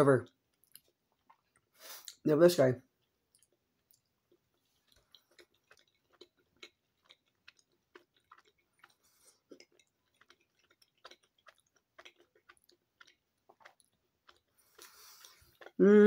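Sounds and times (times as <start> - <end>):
chewing with soft mouth clicks: 0.2 - 2.2, 2.9 - 15.8.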